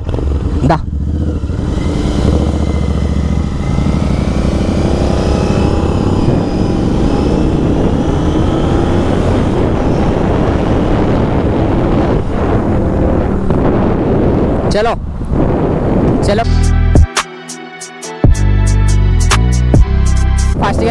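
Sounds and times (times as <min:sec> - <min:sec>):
motorcycle engine running: 0:00.0 - 0:17.1.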